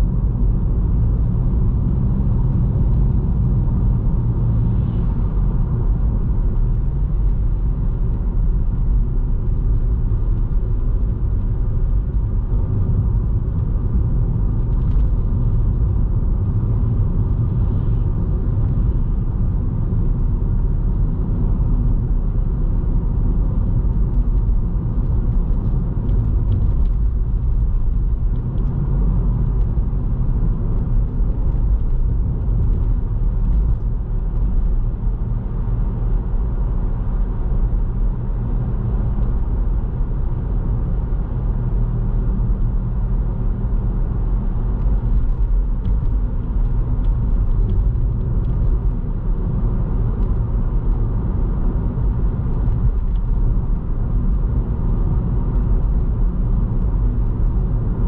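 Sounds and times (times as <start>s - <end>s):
car road and engine noise: 0.0s - 58.0s.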